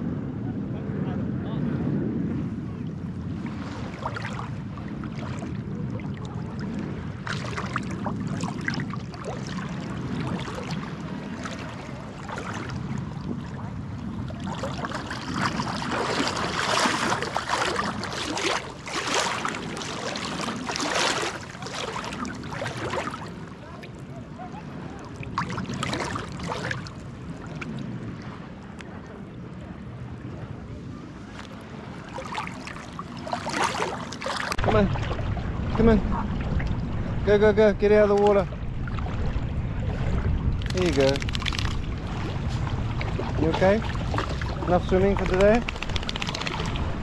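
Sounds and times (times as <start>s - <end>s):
seawater lapping and sloshing: 2.4s - 47.0s
water splashing: 3.3s - 28.5s, 31.2s - 47.0s.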